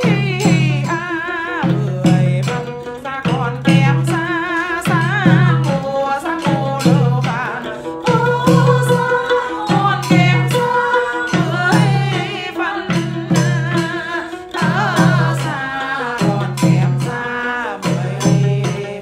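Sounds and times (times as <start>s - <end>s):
man singing with vibrato: 0.0s - 19.0s
plucked lute notes: 0.0s - 19.0s.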